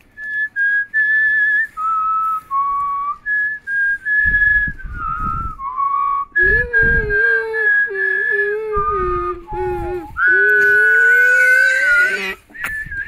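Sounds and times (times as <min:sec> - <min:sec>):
person whistling a tune: 0:00.0 - 0:11.1, 0:12.1 - 0:13.0.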